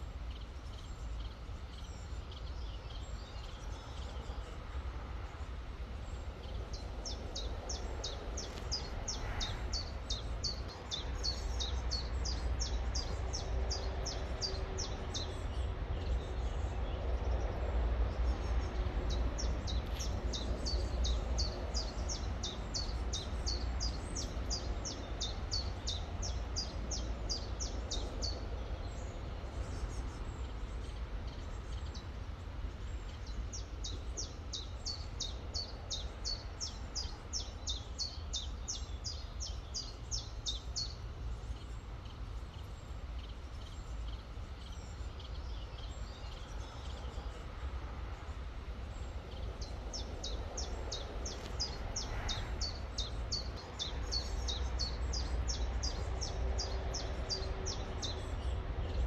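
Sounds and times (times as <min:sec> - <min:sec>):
songbird chirping: 0:00.3 - 0:59.0.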